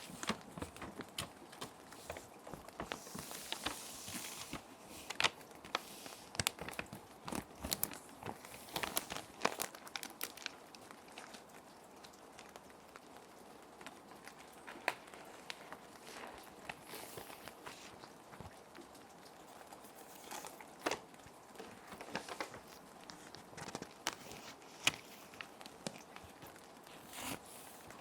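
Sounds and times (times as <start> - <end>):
plastic sheet protectors crinkling: 0.0 - 11.4, 14.2 - 18.6, 19.6 - 28.0.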